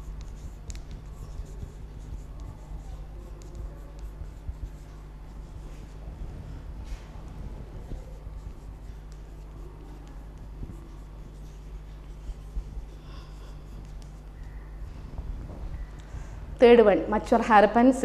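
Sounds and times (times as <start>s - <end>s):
chalk scratching on blackboard: 0.0s - 14.6s
steady low hum: 0.0s - 18.0s.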